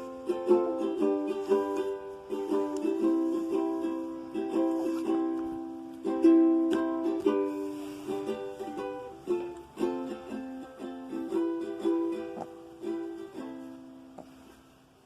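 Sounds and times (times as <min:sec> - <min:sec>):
acoustic guitar playing: 0:00.0 - 0:14.5.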